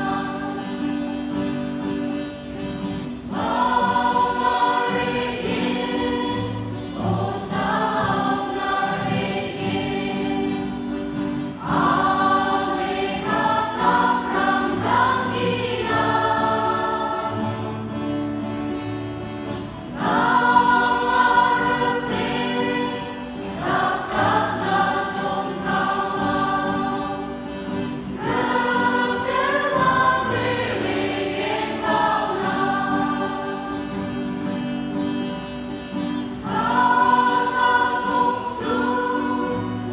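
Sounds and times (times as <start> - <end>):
mixed choir singing a hymn: 0.0 - 1.4, 2.9 - 18.5, 19.5 - 34.4, 36.2 - 39.9.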